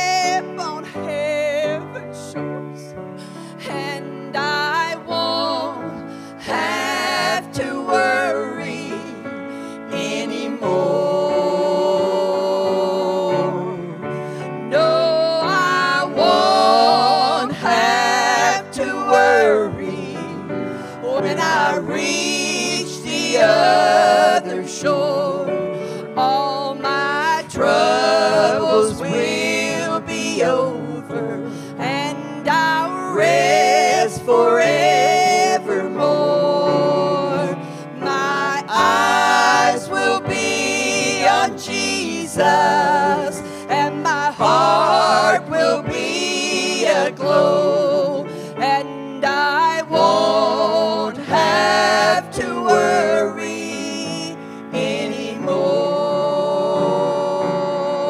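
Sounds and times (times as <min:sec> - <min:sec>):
grand piano accompaniment: 0:00.0 - 0:58.0
women singing gospel song: 0:00.0 - 0:58.0.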